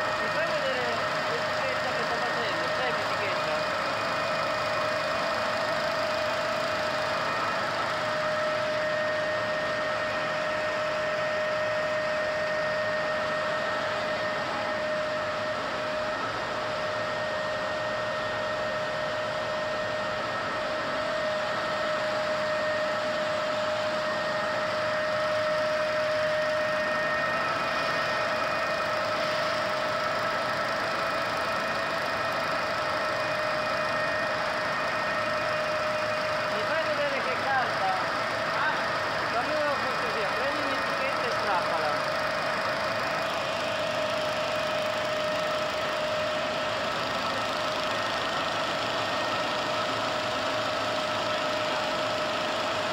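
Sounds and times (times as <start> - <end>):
high multi-tone machine whine: 0.0 - 52.9
printing press mechanical hum: 0.0 - 52.9.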